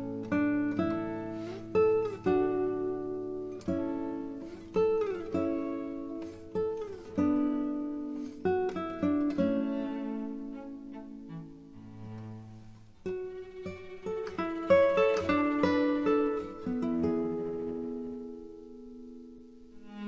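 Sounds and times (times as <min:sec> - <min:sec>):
acoustic guitar plucked melody: 0:00.0 - 0:20.0.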